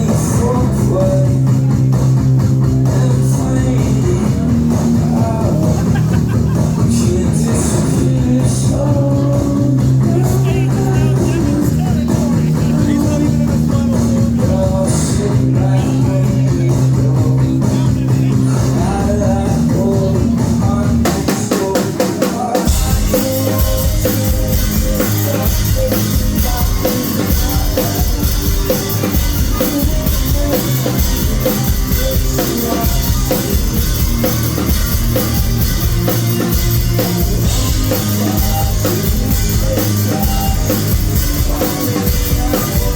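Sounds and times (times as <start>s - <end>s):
ringing guitar and bass chords: 0.0s - 21.6s, 22.6s - 42.9s
drums beating: 0.0s - 42.9s
live rock band playing: 0.0s - 42.9s.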